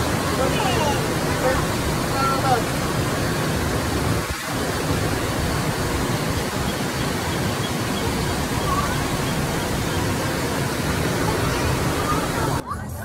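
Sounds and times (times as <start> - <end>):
elevator ventilation fan rushing: 0.0 - 12.6.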